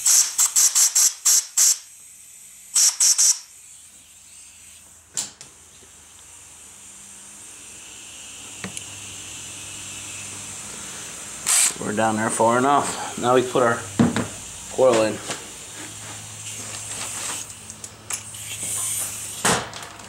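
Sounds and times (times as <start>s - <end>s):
compressed air blow gun hissing: 0.0s - 5.0s, 5.7s - 19.5s.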